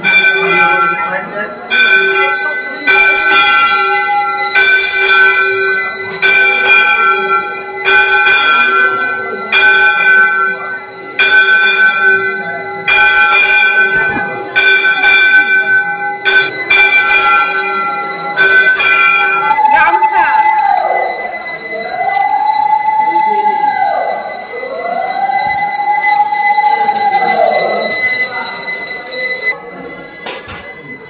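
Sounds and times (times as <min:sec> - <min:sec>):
temple bell ringing: 0:00.0 - 0:31.0.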